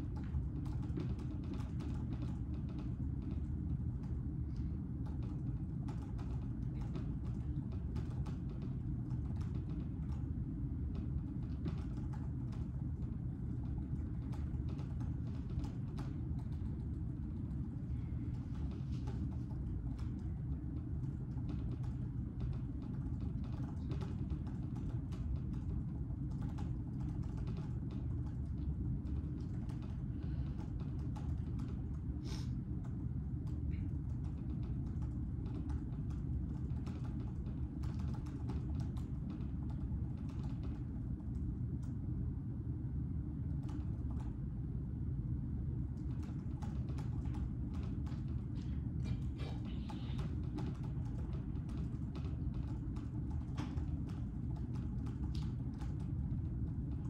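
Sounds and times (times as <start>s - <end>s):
typing on computer keyboard: 0.0s - 4.2s, 5.0s - 32.0s, 32.8s - 42.0s, 43.6s - 44.4s, 46.0s - 48.6s, 49.2s - 57.0s
low room hum: 0.0s - 57.0s.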